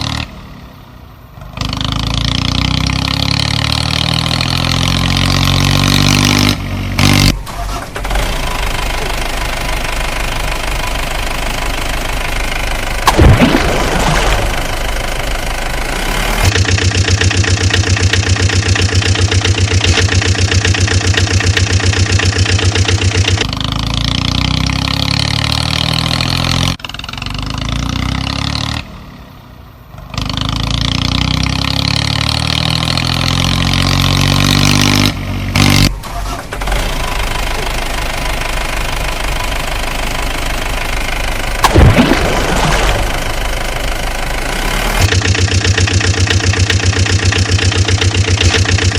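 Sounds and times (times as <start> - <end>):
engine idling and revving: 0.0 - 48.9.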